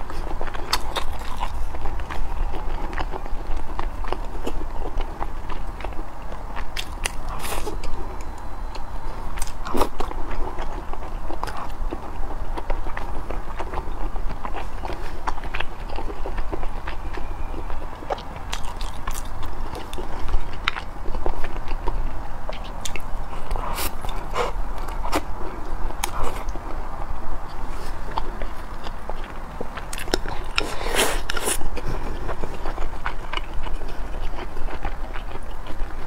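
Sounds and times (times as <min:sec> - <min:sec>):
chewing and biting food: 0:00.0 - 0:36.0.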